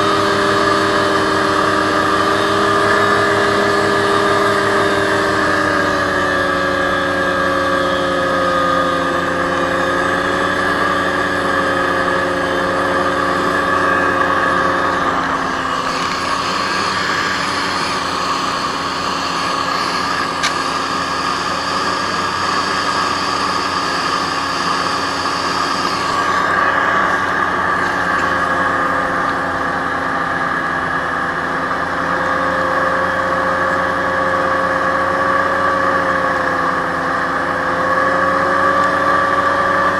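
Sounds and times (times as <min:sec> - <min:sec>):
hovercraft engine and fans: 0:00.0 - 0:39.9.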